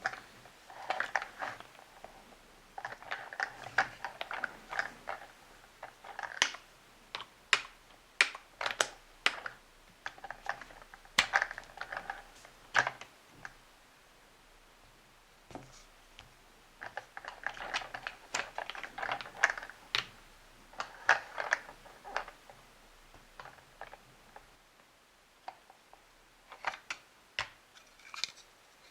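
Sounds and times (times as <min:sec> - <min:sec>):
plastic parts clicking and tapping: 0:00.0 - 0:02.2, 0:02.8 - 0:13.6, 0:15.5 - 0:24.5, 0:25.4 - 0:28.9.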